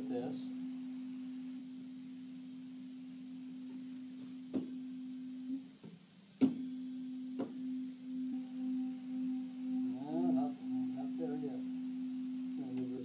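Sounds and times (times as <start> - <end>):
tuning fork struck with knock: 0.0 - 13.0
tuning forks ringing: 0.0 - 13.0.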